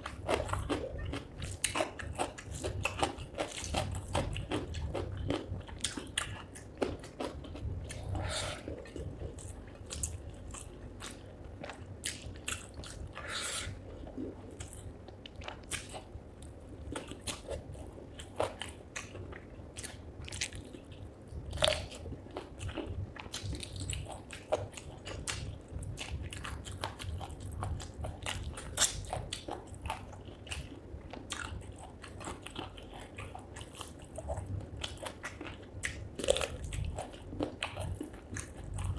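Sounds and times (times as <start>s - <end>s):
close-miked crunchy eating: 0.0s - 38.9s.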